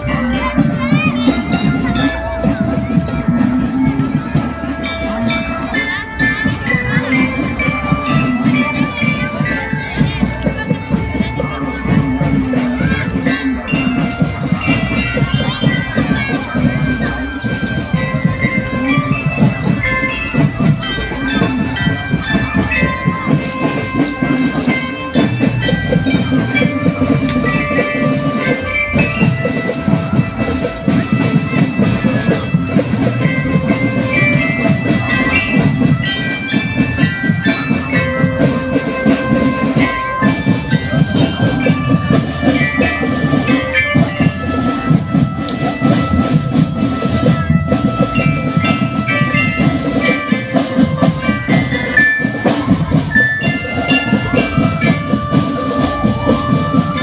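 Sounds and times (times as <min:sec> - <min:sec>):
bright bell-like melody: 0:00.0 - 0:57.0
fast parade drumming: 0:00.0 - 0:57.0.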